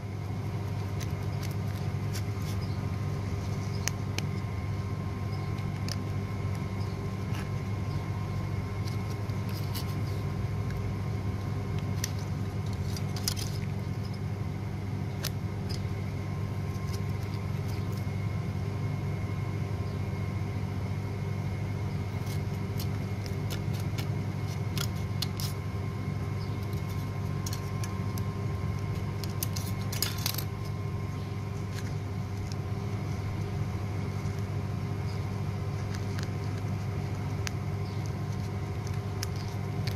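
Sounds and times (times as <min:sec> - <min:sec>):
low motor hum: 0:00.0 - 0:39.9.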